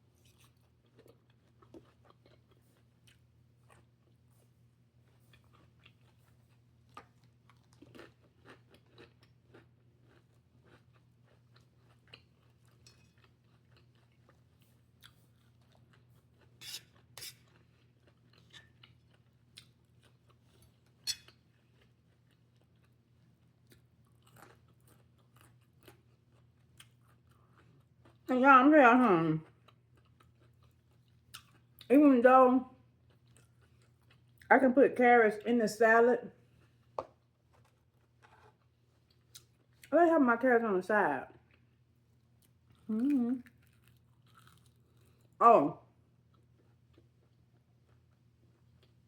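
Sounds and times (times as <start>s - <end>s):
person chewing crunchy food: 0.0s - 28.3s, 29.4s - 31.9s, 33.0s - 34.5s, 36.5s - 39.9s, 41.4s - 45.4s, 46.3s - 49.0s.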